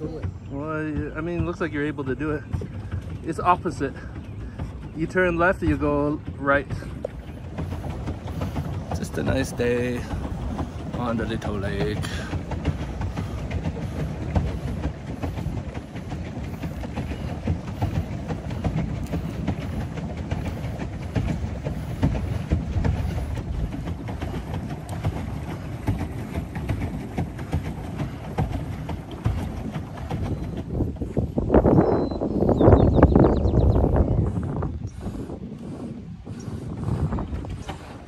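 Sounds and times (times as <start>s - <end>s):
paddle wheel splashing: 0.0s - 38.0s
pedal boat rumble: 0.0s - 38.0s
wind buffeting microphone: 0.0s - 38.0s.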